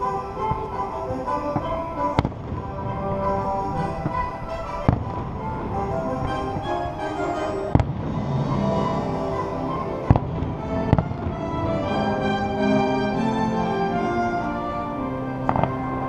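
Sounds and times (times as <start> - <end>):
fireworks bangs: 0.0 - 12.6, 15.4 - 16.0
music playing: 0.0 - 16.0.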